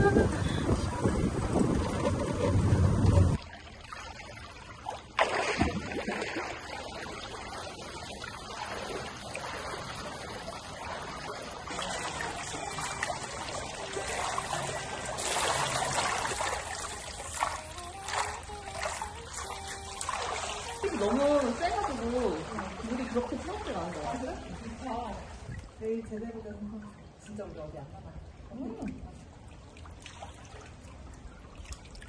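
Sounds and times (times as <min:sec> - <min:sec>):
water trickling and splashing: 0:00.0 - 0:32.0.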